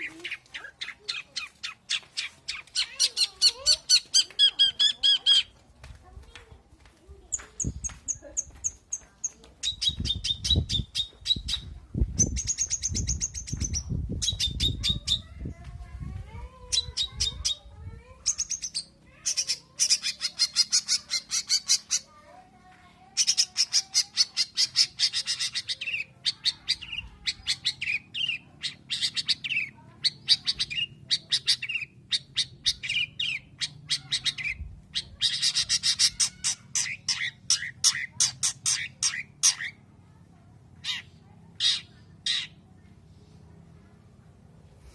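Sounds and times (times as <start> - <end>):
bird chattering: 0.0 - 5.6, 7.2 - 15.4, 16.6 - 22.2, 23.0 - 39.9, 40.8 - 42.6.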